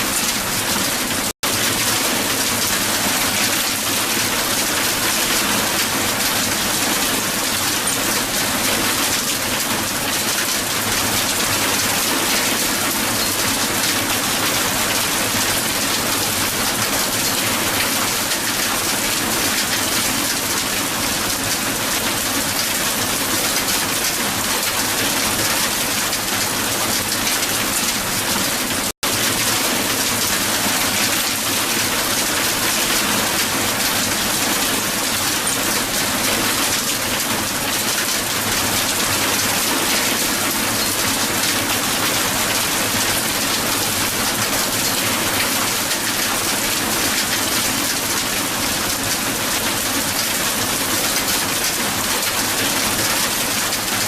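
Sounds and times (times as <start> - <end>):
hail falling on ground: 0.0 - 54.0.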